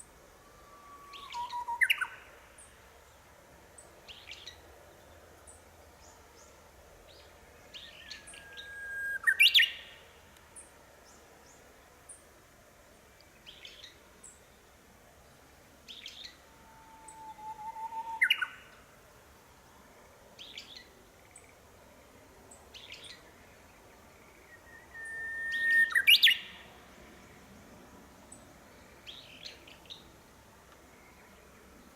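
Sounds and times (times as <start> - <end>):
bush warbler song: 0.0 - 31.9.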